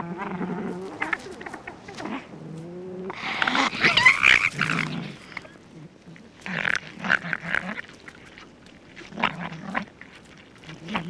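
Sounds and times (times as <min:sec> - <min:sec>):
foxes snarling and growling: 0:00.0 - 0:11.0.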